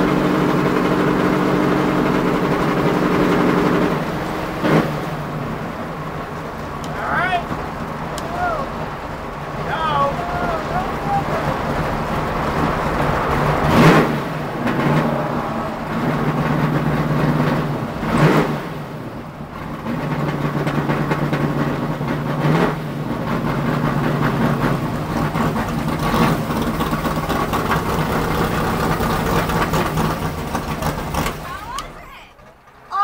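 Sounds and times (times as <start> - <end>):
car engine at low revs: 0.0 - 33.0.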